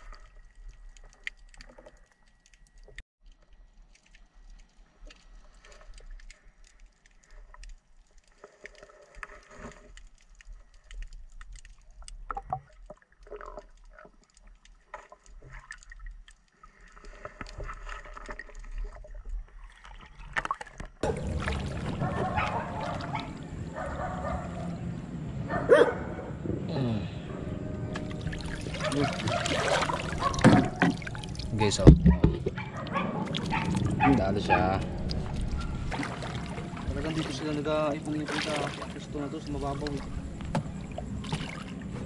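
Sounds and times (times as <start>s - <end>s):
person wading through water: 0.0s - 25.0s, 27.2s - 42.0s.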